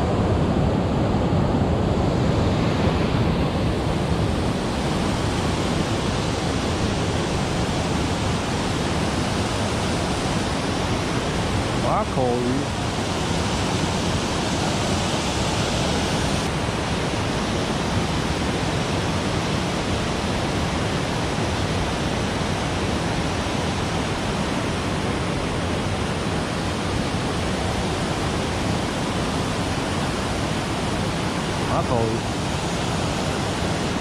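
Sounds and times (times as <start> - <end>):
water rushing over weir: 0.0 - 34.0.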